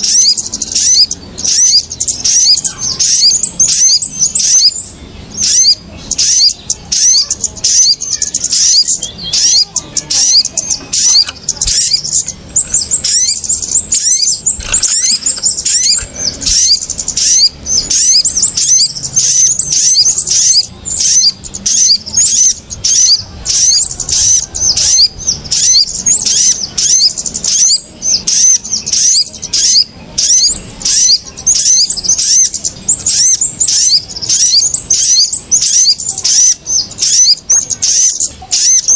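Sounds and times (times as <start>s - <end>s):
small birds chirping in chorus: 0.0s - 38.9s.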